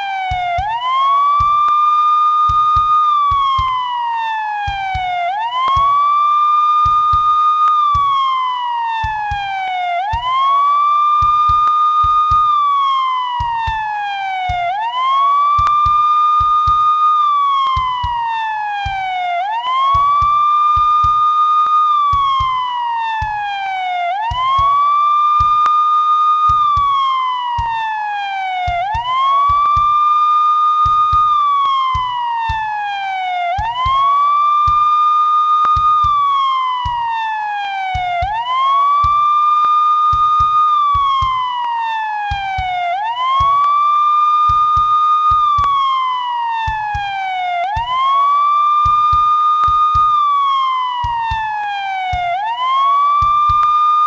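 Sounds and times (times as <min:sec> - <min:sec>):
police siren wailing: 0:00.0 - 0:54.0.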